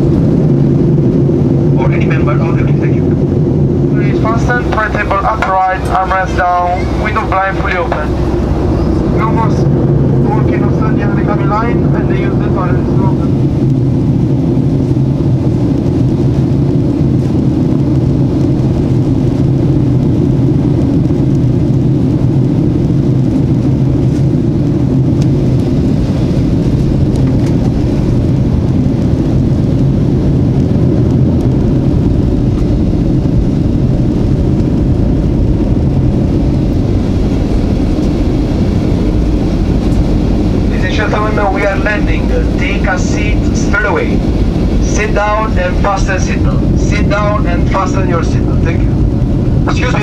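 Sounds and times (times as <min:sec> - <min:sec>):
airplane cabin engine roar: 0:00.0 - 0:50.0.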